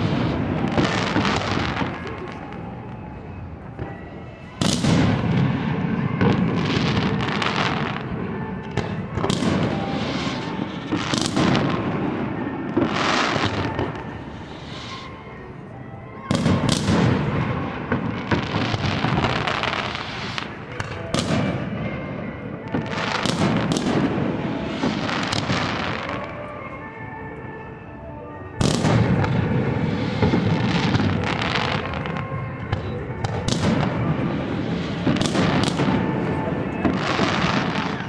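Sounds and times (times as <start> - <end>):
fireworks booming and crackling: 0.0 - 38.0.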